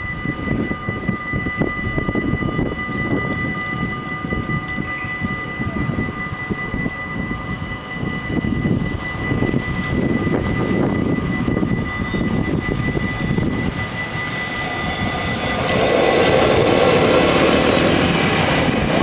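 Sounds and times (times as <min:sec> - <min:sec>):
level-crossing warning bells: 0:00.0 - 0:19.0.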